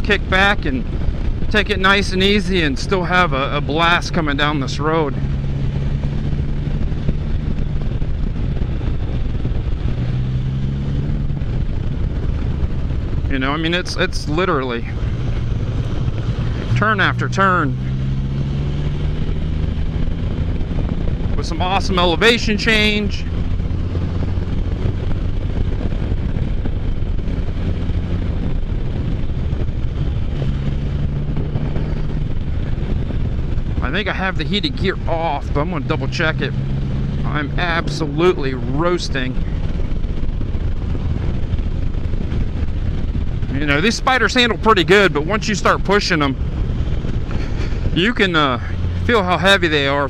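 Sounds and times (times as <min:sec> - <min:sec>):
three-cylinder engine running: 0:00.0 - 0:50.0
wind rush: 0:00.0 - 0:50.0.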